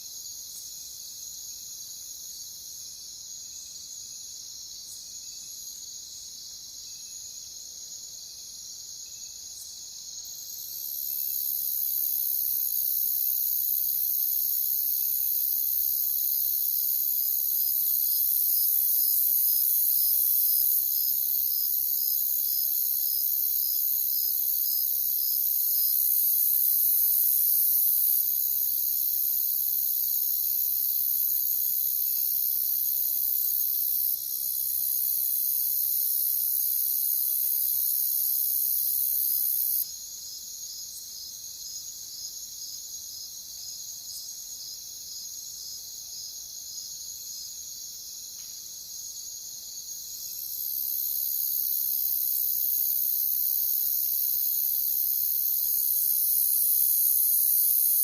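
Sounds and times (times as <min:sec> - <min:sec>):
crickets chirping: 0:00.0 - 0:58.0
high-pitched insect trill: 0:00.0 - 0:58.0.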